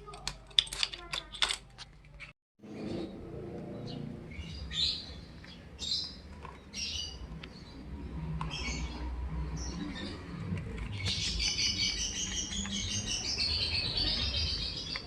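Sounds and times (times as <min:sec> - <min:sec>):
birds chirping: 0:02.6 - 0:15.0.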